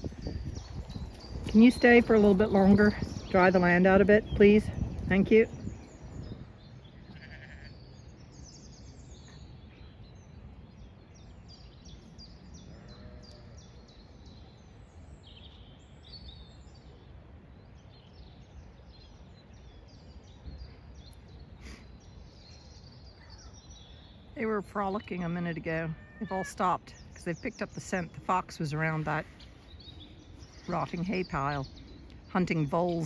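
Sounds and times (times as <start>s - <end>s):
songbirds singing and chirping: 0.0s - 33.0s.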